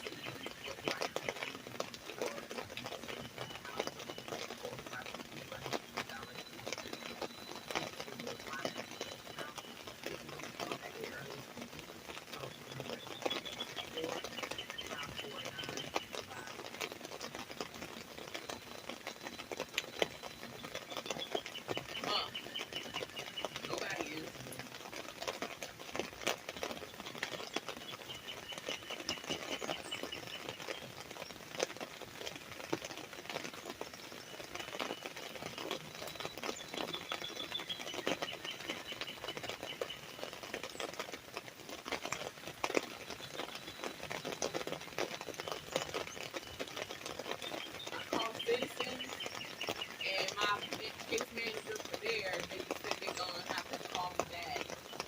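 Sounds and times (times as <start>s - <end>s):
rain pattering on umbrella: 0.0s - 55.0s.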